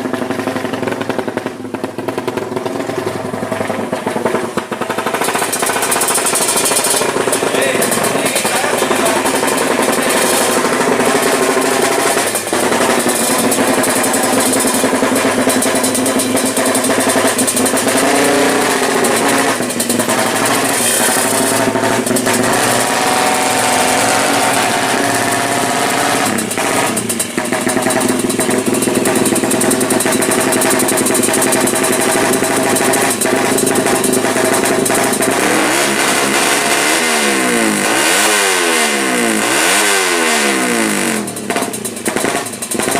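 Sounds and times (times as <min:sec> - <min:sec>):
motorbike engine running loud: 0:00.0 - 0:42.9.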